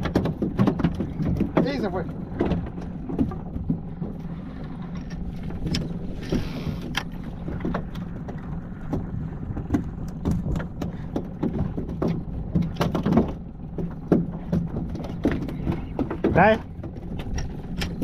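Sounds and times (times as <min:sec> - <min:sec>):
outboard motor idling: 0:00.0 - 0:18.0
reel clicks and knocks: 0:00.0 - 0:18.0.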